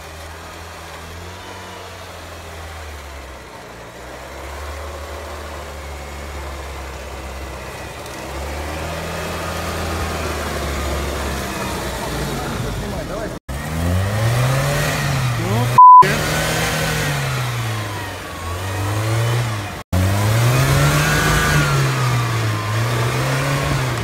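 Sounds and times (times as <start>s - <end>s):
vehicle engine at low revs: 0.0s - 24.0s.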